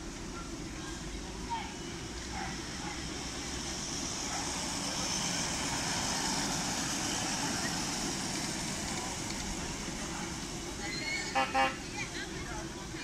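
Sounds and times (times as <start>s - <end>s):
miniature train running on track: 0.0s - 13.0s.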